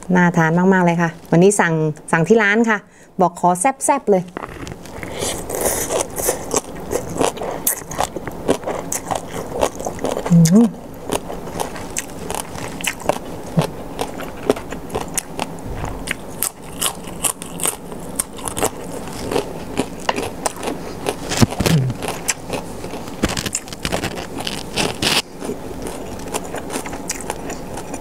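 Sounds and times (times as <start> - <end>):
wet chewing and crunching: 4.3 - 28.0.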